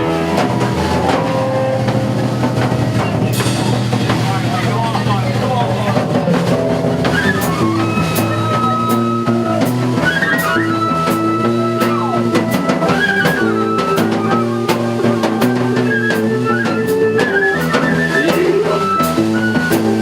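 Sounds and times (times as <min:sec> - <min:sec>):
drum kit beat: 0:00.0 - 0:20.0
electric guitar chords: 0:00.0 - 0:20.0.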